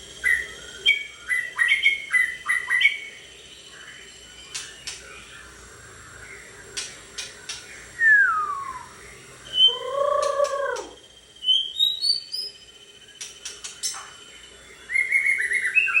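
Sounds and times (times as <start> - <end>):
bird singing varied song: 0.2 - 16.0.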